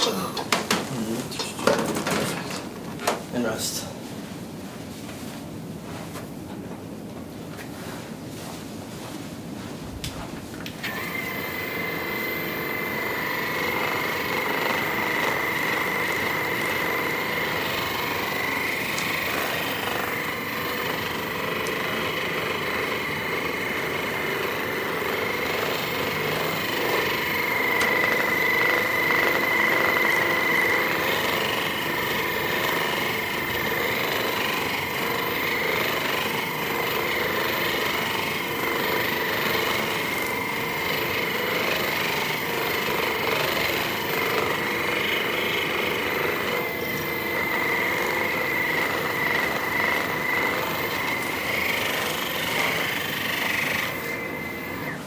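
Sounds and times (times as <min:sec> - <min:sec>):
percussion massager hammering: 0:10.8 - 0:55.0.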